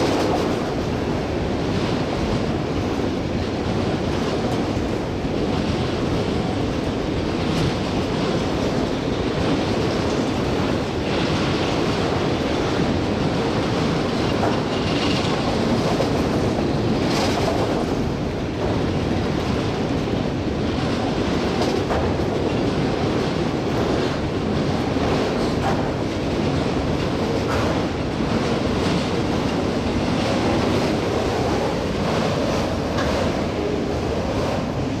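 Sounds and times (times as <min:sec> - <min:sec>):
freight car wheels rumbling on rail: 0:00.0 - 0:35.0.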